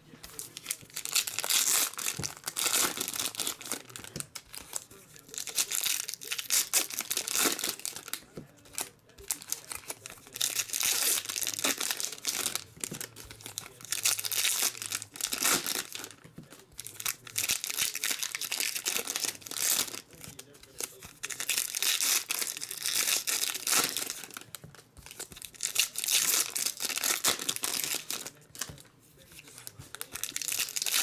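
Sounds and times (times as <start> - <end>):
foil wrappers crinkling and tearing: 0.2 - 31.0.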